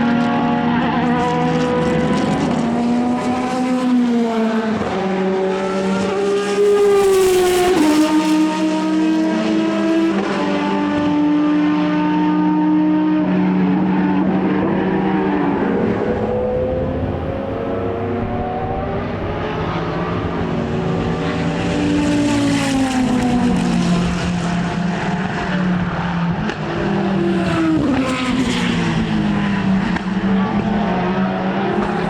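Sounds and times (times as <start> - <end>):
racing car engine accelerating: 0.0 - 32.0.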